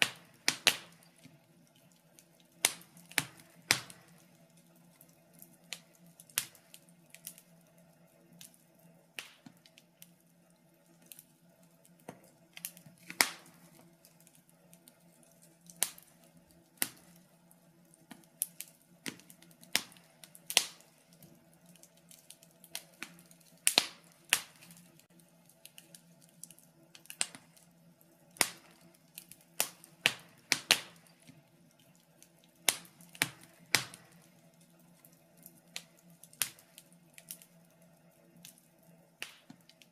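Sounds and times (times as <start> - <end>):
sharp pops and snaps: 0.0 - 7.6, 9.2 - 10.2, 11.0 - 17.3, 17.9 - 27.7, 28.4 - 37.6, 39.2 - 39.9
wood fire crackling: 0.0 - 39.9.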